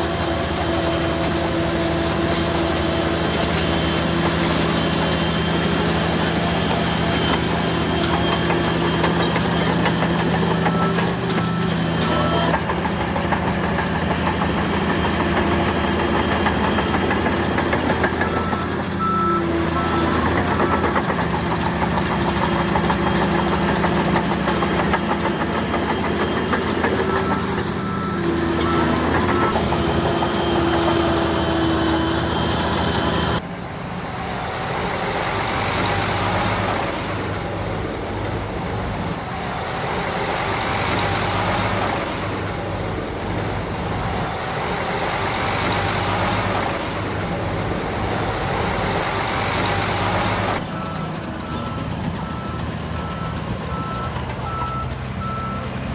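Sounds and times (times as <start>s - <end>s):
construction machinery engines running: 0.0s - 55.9s.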